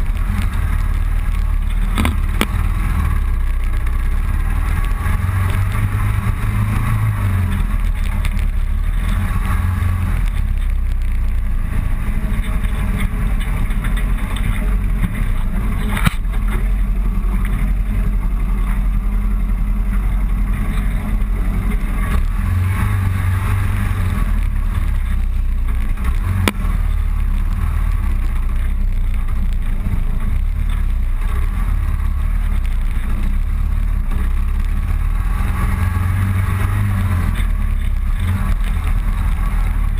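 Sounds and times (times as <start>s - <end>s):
motorcycle running: 0.0s - 39.9s
wind rumble on microphone: 0.0s - 39.9s.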